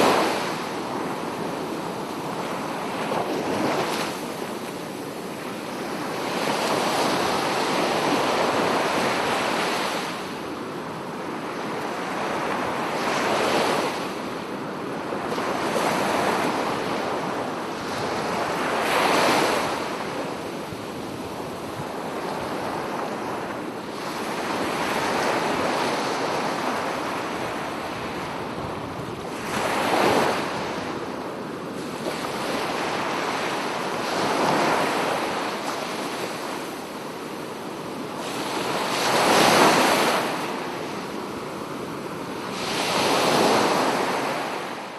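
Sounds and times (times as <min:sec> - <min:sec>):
sea waves breaking on beach: 0:00.0 - 0:44.9
wind on microphone: 0:00.0 - 0:44.9.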